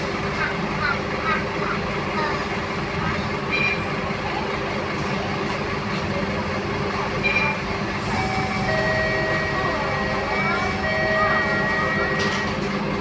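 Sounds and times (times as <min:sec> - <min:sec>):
bus diesel engine running: 0:00.0 - 0:13.0.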